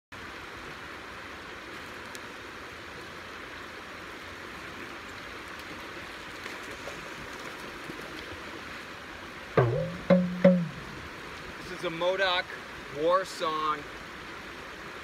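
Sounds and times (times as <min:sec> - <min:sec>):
creek flowing over rocks: 0:00.1 - 0:15.0.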